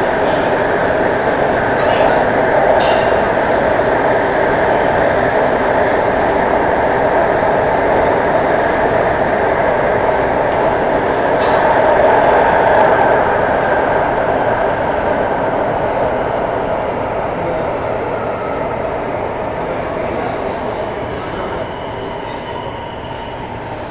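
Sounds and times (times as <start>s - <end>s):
metro train wheels rumbling on rail: 0.0s - 23.9s.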